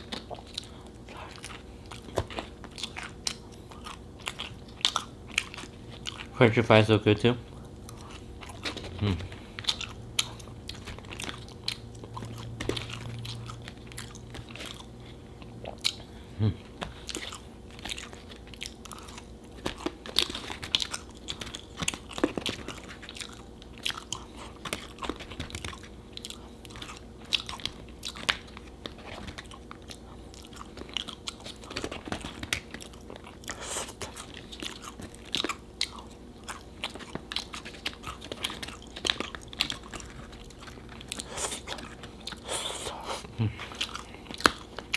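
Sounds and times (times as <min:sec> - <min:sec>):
crunching and wet chewing: 0:00.0 - 0:44.9.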